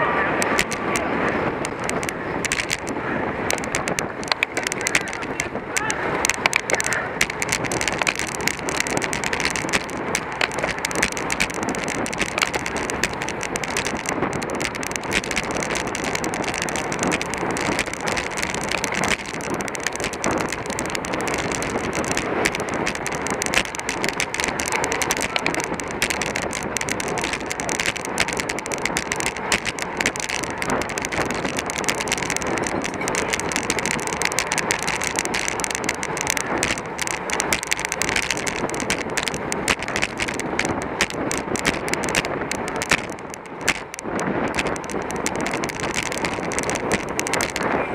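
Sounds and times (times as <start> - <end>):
bicycle tyre and road noise: 0.0 - 47.9
wind rush on microphone: 0.0 - 47.9
bicycle clicks and rattles: 0.4 - 47.9.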